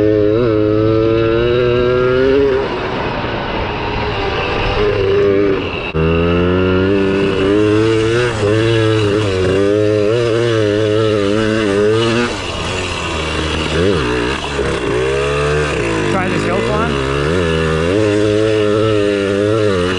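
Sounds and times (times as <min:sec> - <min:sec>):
two-stroke engine revving: 0:00.0 - 0:19.9.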